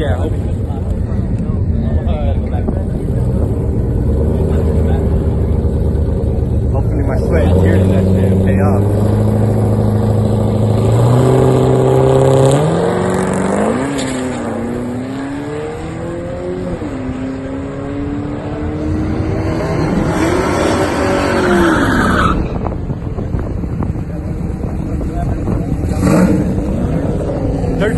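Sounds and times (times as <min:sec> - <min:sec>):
drag racing cars accelerating: 0:00.0 - 0:27.9.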